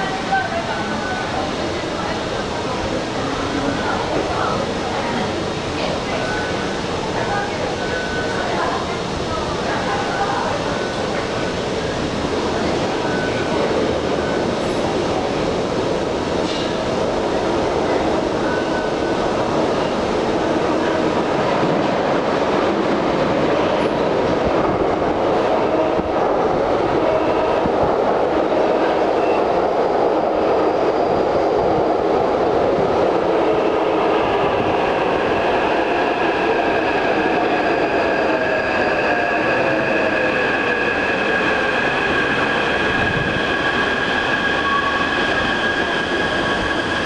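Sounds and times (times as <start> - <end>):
falling whine of train: 0.0 - 47.0
train wheels rumbling on track: 0.0 - 47.0.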